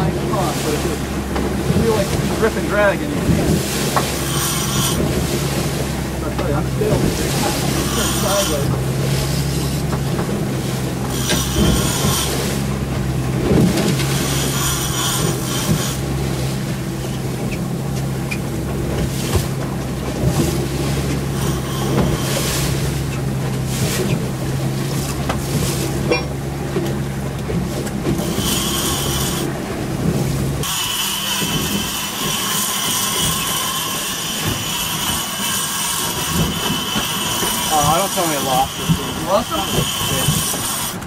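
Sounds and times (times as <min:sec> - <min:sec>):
boat engines humming: 0:00.0 - 0:41.0
wind: 0:00.0 - 0:41.0.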